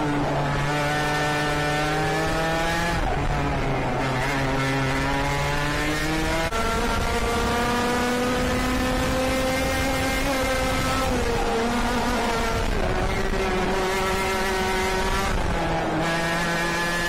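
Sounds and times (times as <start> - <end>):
kart engine revving high: 0.0 - 17.0.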